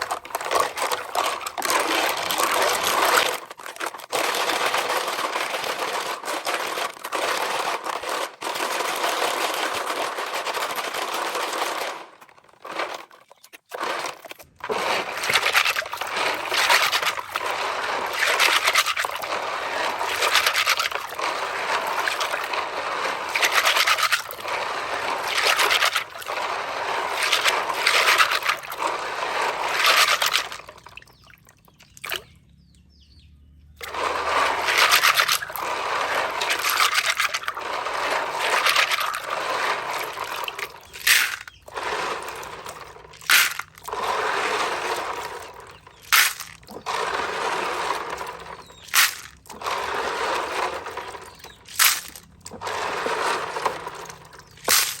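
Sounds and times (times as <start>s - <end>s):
water sloshing and splashing: 0.0s - 32.5s, 33.8s - 55.0s.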